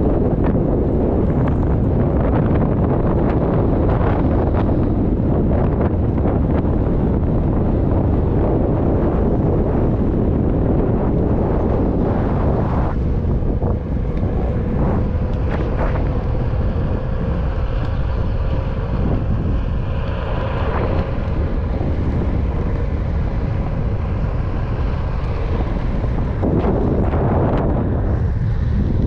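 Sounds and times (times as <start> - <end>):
skateboard rolling on asphalt: 0.0 - 29.0
steady hum: 0.0 - 29.0
wind buffeting microphone: 0.0 - 29.0.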